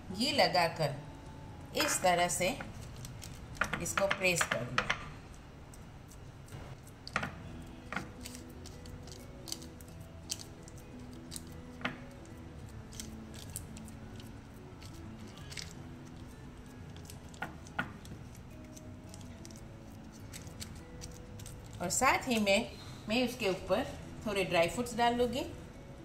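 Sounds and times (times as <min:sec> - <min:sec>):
faint background music: 0:00.0 - 0:26.0.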